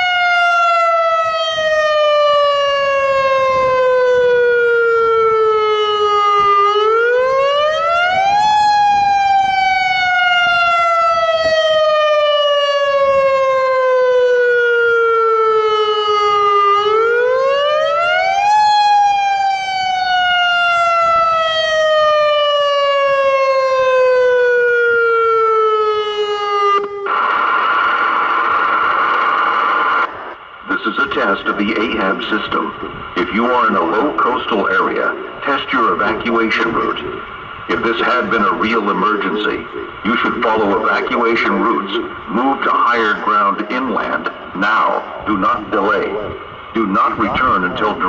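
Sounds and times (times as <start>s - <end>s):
siren wailing: 0.0s - 48.0s.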